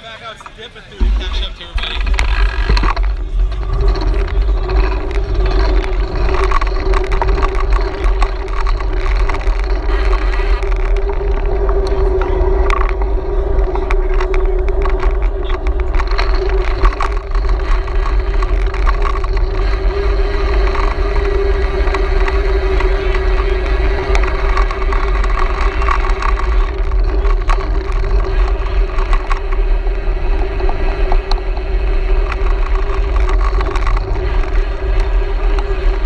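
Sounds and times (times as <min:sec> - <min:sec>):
tyre and road hum: 0:00.0 - 0:36.0
small clicks and rattles: 0:00.3 - 0:36.0
wind buffeting microphone: 0:00.4 - 0:36.0.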